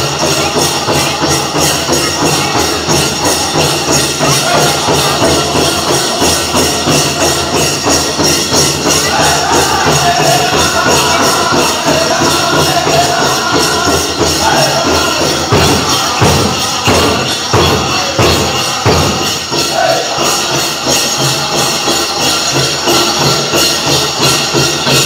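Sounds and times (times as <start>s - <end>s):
dancers' bells jingling: 0.0s - 25.0s
drum group singing: 0.0s - 25.0s
steady drumbeat: 0.0s - 25.0s.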